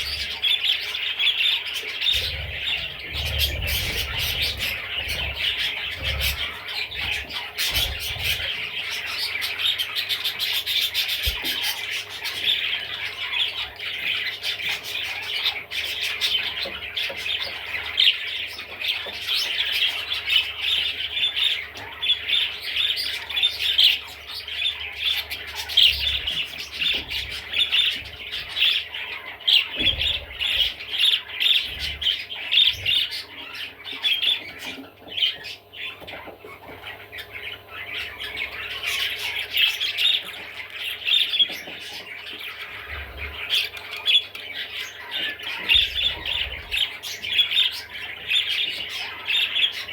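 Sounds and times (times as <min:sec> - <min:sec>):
budgerigar warbling and chattering: 0:00.0 - 0:49.9.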